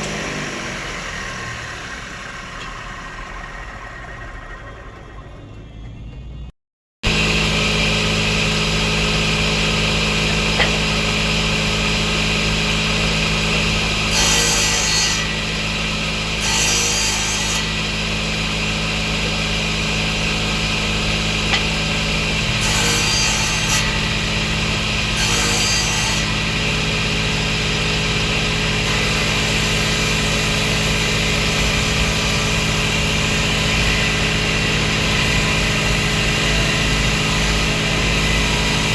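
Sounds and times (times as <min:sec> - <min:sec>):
table saw cutting wood: 0:00.0 - 0:05.6, 0:07.0 - 0:38.9.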